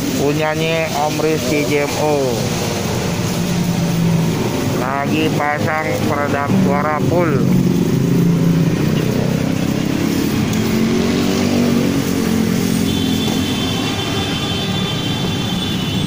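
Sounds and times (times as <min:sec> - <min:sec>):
traffic engines revving: 0:00.0 - 0:16.0.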